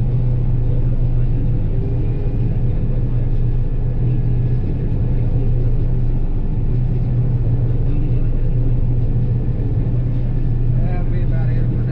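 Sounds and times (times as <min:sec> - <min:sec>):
combine engine hum: 0:00.0 - 0:11.9.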